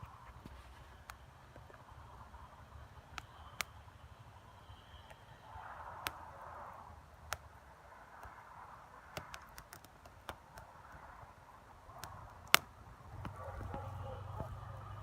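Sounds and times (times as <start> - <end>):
log fire crackling and popping: 0.0 - 4.4, 5.1 - 15.0.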